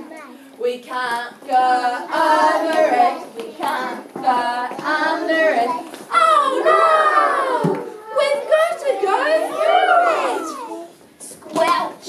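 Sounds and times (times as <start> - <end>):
children singing and chanting: 0.0 - 12.0.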